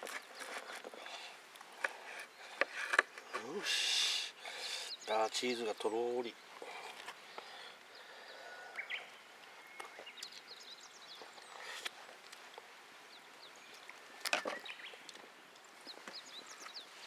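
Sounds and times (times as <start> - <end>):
small birds chirping: 0.0 - 11.9, 13.1 - 17.0.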